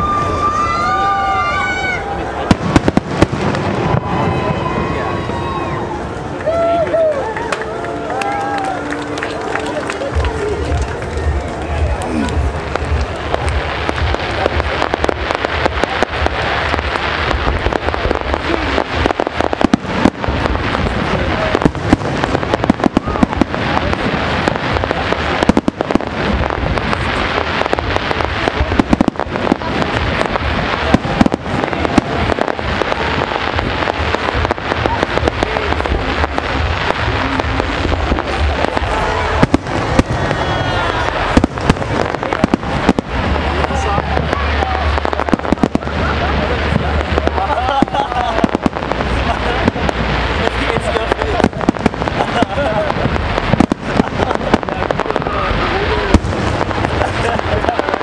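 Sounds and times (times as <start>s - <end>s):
fireworks bursting: 0.0s - 58.0s
continuous rumble: 1.8s - 58.0s.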